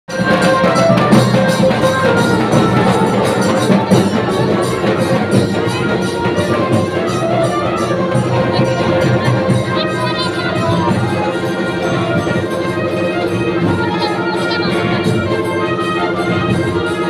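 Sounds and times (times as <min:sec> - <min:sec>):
loud music with drum beat: 0:00.1 - 0:17.0.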